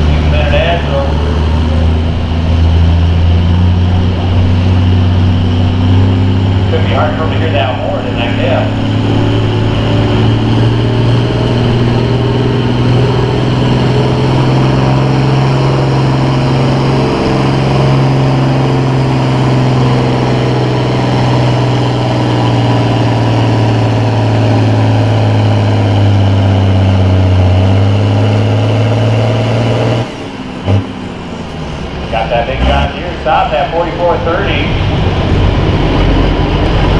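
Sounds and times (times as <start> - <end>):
tractor engine under full load: 0.0 - 36.9.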